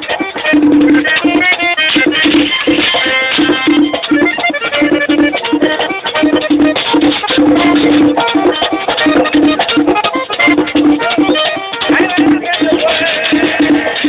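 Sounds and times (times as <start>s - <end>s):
button accordion melody: 0.0s - 14.0s
metal scraper rhythm: 0.0s - 14.0s
regular low drum beat: 0.0s - 14.0s.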